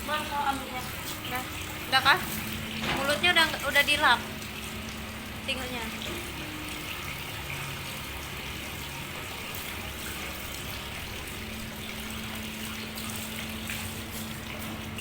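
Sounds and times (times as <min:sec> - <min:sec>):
low steady hum: 0:00.0 - 0:15.0
water running from a tap: 0:00.0 - 0:15.0.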